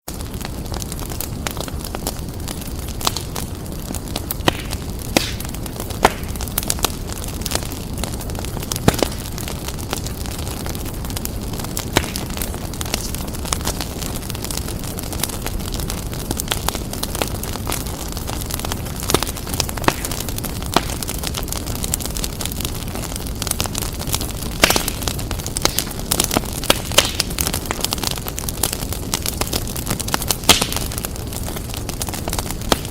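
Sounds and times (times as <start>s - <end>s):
low rumble of flames: 0.1s - 32.9s
wood fire crackling and popping: 0.1s - 32.9s.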